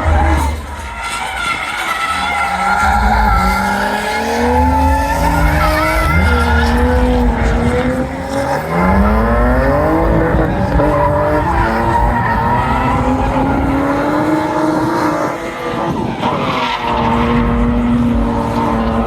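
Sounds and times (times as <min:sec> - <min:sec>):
car engine revving: 0:00.0 - 0:19.0
tyres skidding: 0:00.0 - 0:19.0.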